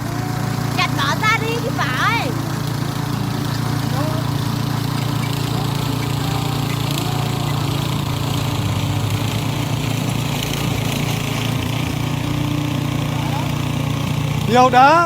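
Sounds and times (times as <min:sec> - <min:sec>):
tiller engine running: 0:00.0 - 0:15.0.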